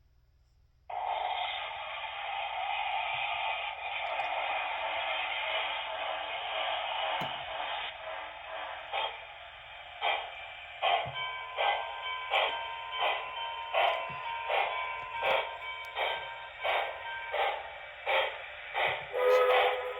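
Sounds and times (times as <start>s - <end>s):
locomotive exhaust chuffs: 0.9s - 19.9s
steam hiss from small speaker: 0.9s - 19.9s.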